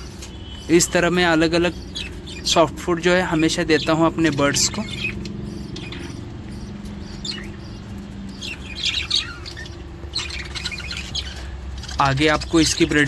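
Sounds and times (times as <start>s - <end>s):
budgerigars chirping: 0.0s - 13.0s
steady low hum: 0.0s - 13.0s.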